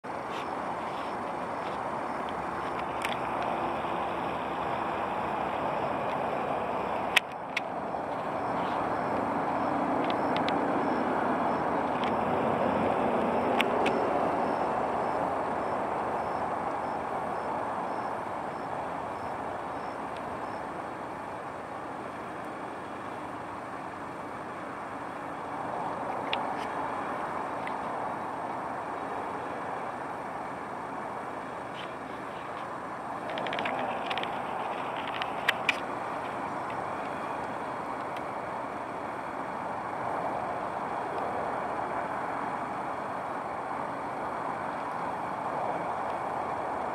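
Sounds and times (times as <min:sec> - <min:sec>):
motor vehicle rumble: 0:00.0 - 0:46.9.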